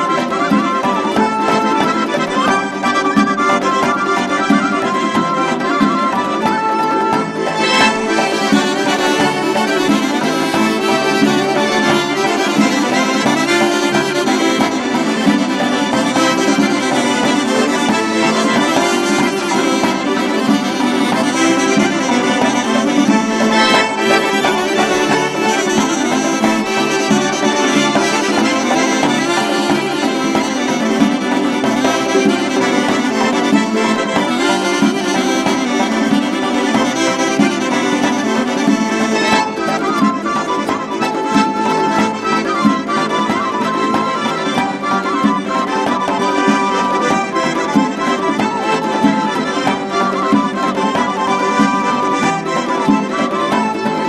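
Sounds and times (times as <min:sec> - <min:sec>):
instrumental background music: 0:00.0 - 0:54.0.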